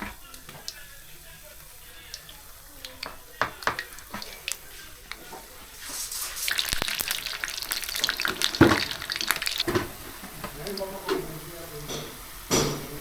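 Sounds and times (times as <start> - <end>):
food deep-frying in oil: 0.0 - 13.0
oil popping and clicking: 0.0 - 13.0.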